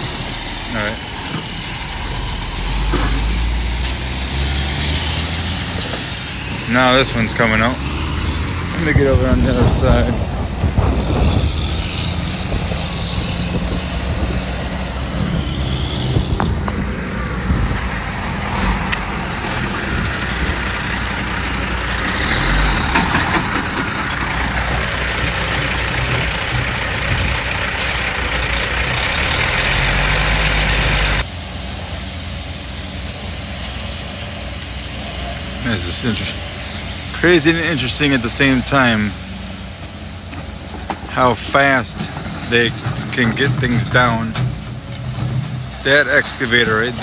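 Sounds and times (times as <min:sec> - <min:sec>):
excavator engine under load: 0:00.0 - 0:47.0.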